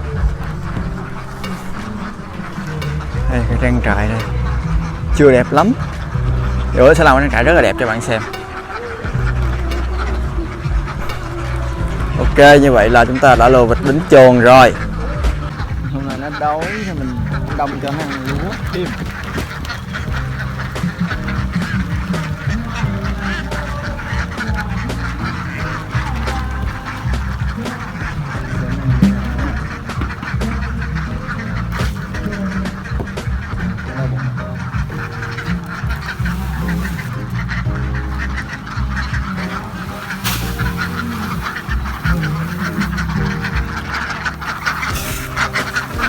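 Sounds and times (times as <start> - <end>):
ducks quacking: 0.0 - 46.0.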